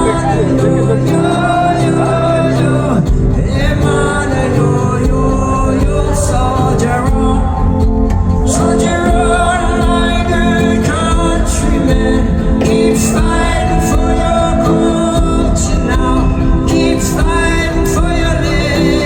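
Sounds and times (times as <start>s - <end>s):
live band music: 0.0s - 19.0s
wordless singing: 0.0s - 19.0s.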